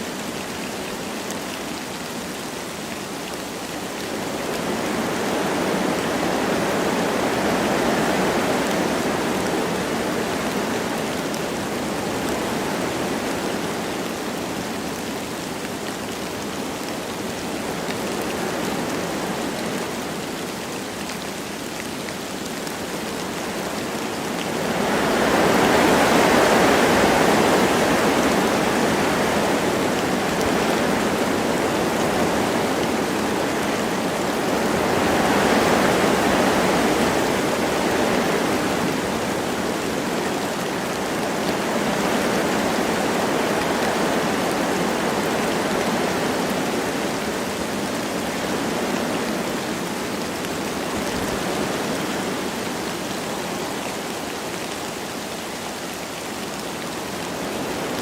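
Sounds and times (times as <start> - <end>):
light rain: 0.0 - 58.0
wind blowing through trees: 0.0 - 58.0.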